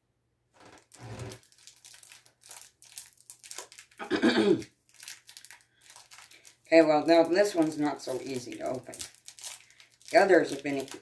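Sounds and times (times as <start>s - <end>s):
foil wrapper rustling: 0.6s - 4.0s, 4.8s - 11.0s.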